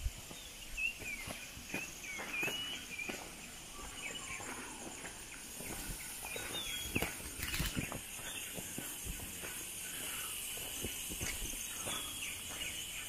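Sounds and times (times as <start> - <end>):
birds chirping: 0.0 - 13.0
insects hissing: 0.0 - 13.0
footsteps crunching on gravel: 0.1 - 13.0.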